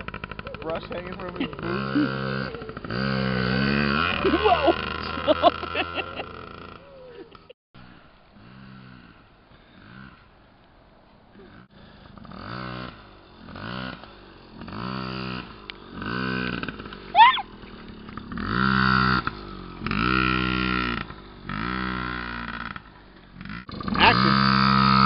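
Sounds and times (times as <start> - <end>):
dirt bike engine revving: 0.0 - 10.4, 11.4 - 25.0.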